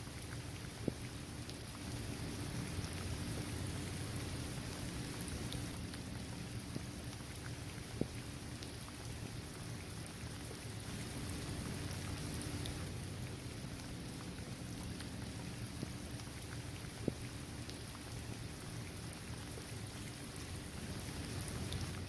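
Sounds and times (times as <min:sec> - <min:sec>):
rain falling on hard surface: 0:00.0 - 0:22.0.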